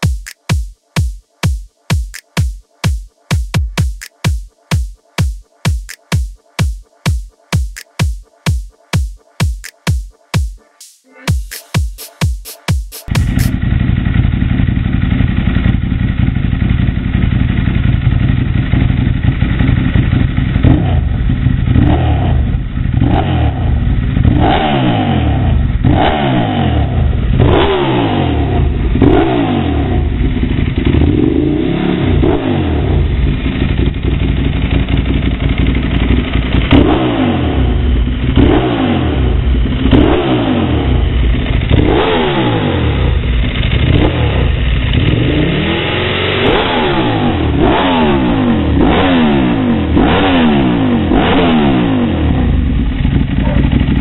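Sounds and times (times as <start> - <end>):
motorcycle engine idling and revving: 0.0 - 10.6, 11.3 - 54.0.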